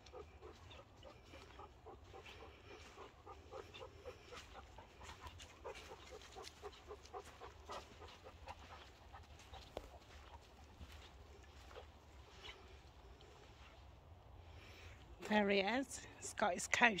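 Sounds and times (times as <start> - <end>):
dog panting: 0.0 - 13.8.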